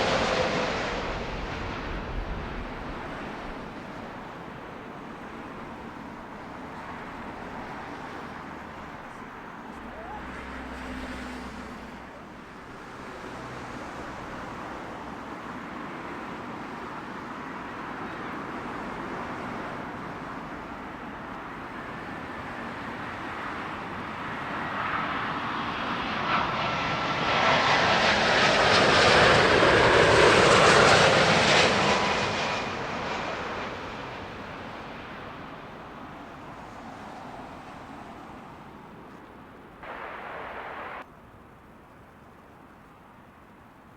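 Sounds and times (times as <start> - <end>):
jet airliner passing overhead: 0.0 - 41.1
jet engine whine: 0.0 - 41.1.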